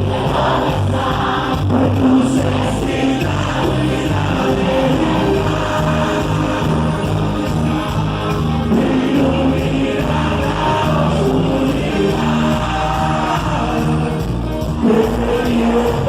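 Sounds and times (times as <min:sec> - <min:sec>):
choir singing with low beat: 0:00.0 - 0:16.0.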